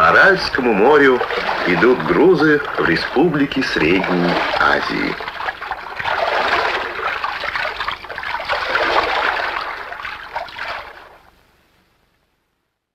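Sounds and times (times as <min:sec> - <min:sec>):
sea water splashing: 0:00.0 - 0:11.4.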